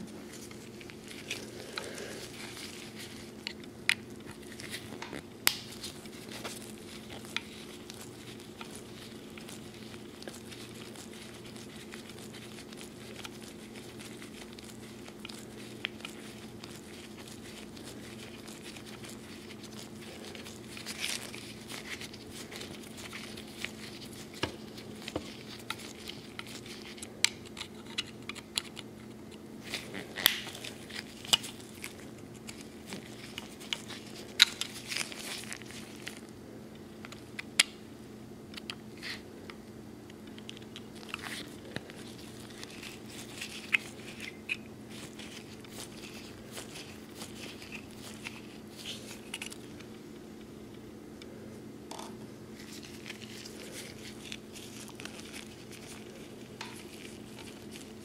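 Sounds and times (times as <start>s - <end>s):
rustle of gloves: 0.0s - 36.4s, 40.2s - 50.5s, 52.5s - 58.0s
steady low hum: 0.0s - 58.0s.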